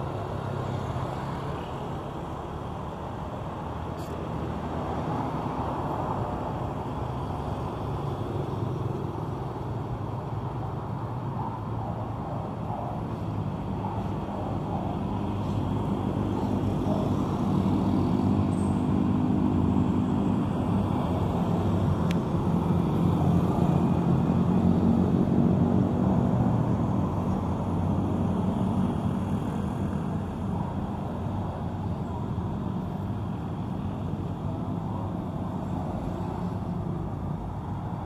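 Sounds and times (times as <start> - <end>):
vehicle engine hum: 0.0 - 38.0.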